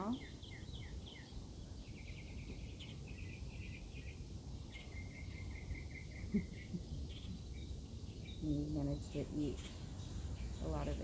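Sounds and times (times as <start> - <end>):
steady low background noise: 0.0 - 11.0.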